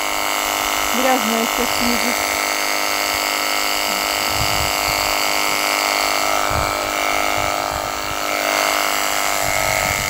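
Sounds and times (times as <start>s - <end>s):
electric pump motor whining: 0.0s - 10.0s
water spraying: 0.0s - 10.0s.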